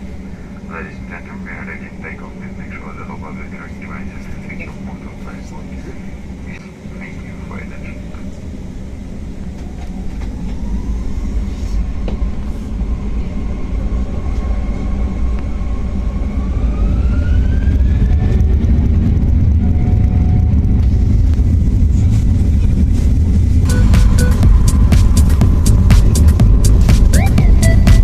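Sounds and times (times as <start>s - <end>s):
jet engines spooling up: 0.0s - 28.0s
rising engine whine: 0.0s - 28.0s.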